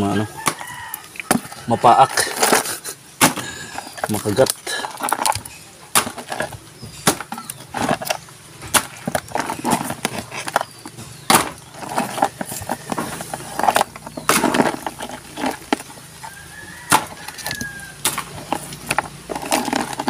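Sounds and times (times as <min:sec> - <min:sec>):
crab shells and fish knocking: 0:00.4 - 0:20.0.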